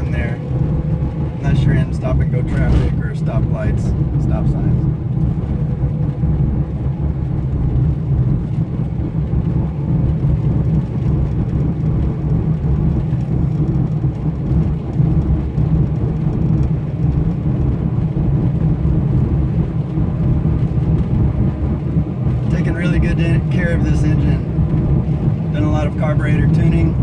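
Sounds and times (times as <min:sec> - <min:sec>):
car engine drone in cabin: 0:00.0 - 0:27.0
tyre and road noise: 0:00.0 - 0:27.0.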